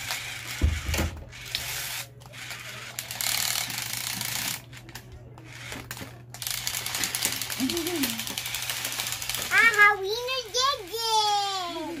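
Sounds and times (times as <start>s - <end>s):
toy robot motors whirring and clicking: 0.0s - 12.0s.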